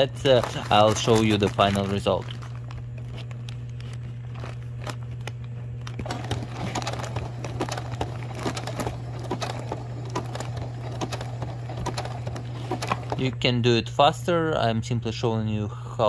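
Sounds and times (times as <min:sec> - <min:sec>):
fabric crinkling: 0:00.0 - 0:13.3
sewing machine motor hum: 0:00.0 - 0:13.6.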